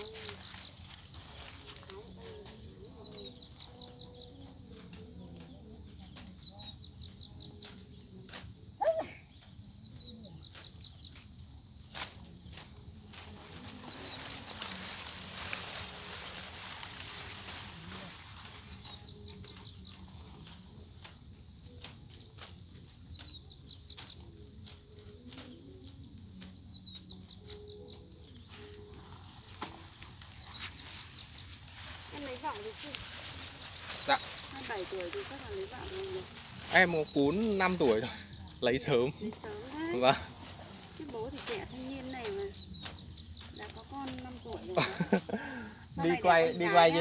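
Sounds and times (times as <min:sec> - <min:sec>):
high-pitched insect chorus: 0:00.0 - 0:47.0
insect chirping bursts: 0:00.0 - 0:47.0.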